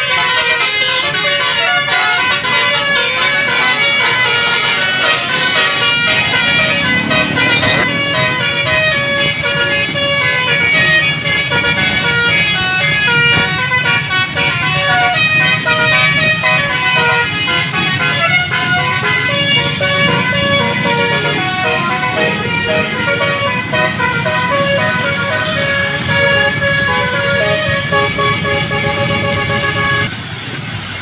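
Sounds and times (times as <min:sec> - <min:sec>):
musical air horn melody: 0:00.0 - 0:30.1.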